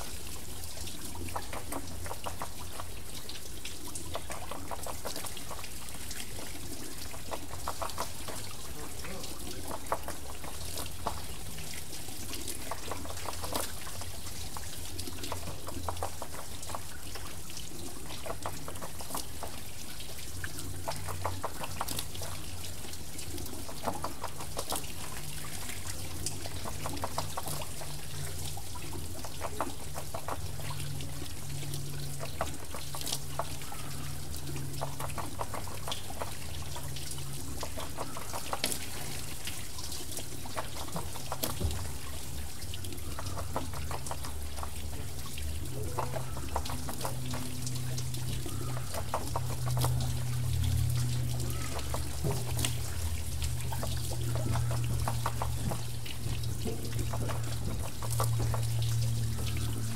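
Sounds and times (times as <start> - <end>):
low steady rumble: 0.0 - 59.9
water splashing off water wheel: 0.0 - 59.9.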